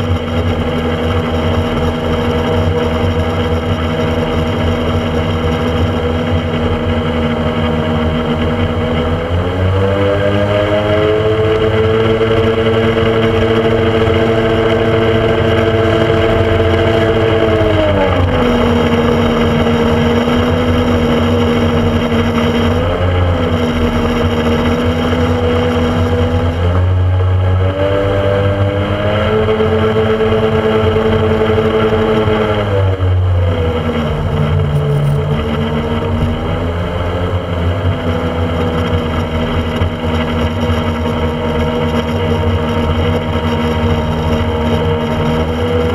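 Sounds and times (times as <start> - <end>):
speedboat engine: 0.0 - 45.9
wind: 0.0 - 45.9.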